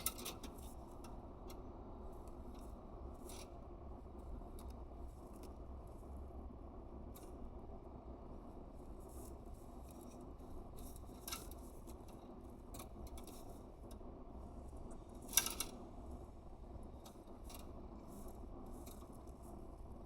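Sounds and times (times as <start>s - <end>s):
small clicks and crackles: 0.0s - 6.4s, 7.0s - 7.7s, 8.4s - 20.0s
low hum: 0.0s - 20.0s.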